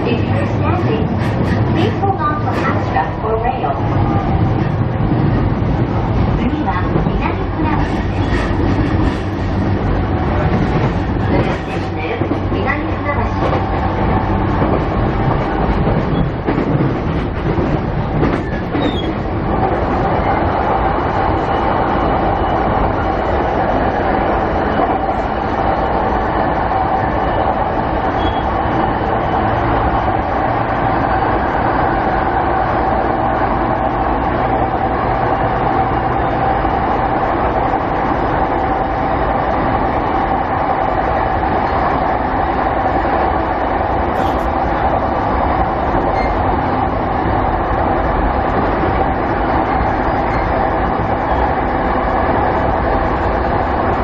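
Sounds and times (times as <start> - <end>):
train running at speed: 0.0 - 54.0.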